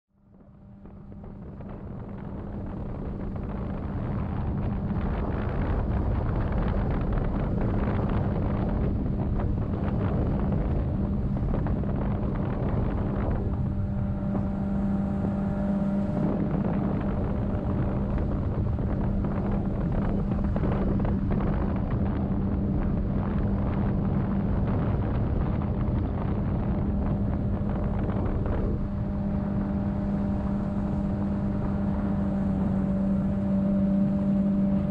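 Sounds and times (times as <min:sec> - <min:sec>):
boat engine droning: 0:00.2 - 0:34.9
wind on microphone: 0:00.2 - 0:34.9.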